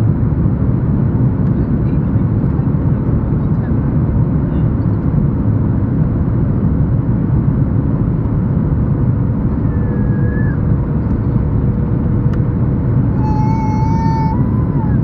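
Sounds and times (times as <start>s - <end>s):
jet engines rumbling: 0.1s - 15.0s.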